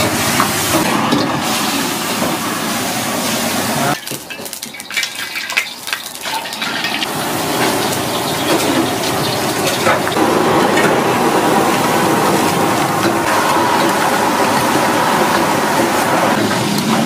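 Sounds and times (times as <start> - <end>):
food sizzling in a wok: 0.0 - 17.0
wok crackling and spitting: 0.0 - 17.0.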